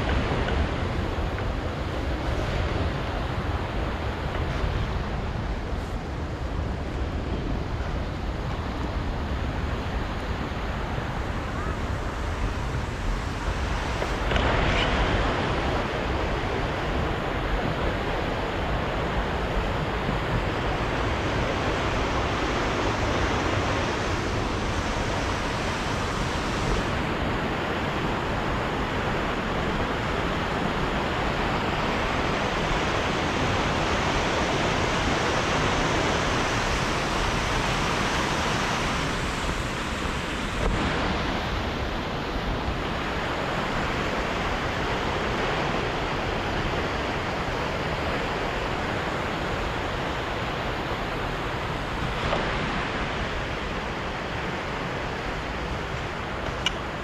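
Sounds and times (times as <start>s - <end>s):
river rushing: 0.0s - 57.0s.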